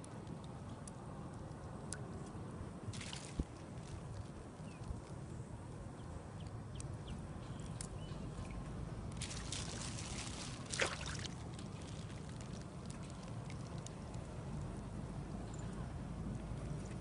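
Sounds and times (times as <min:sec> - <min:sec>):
water splashing and trickling: 0:00.0 - 0:05.5, 0:07.3 - 0:17.0.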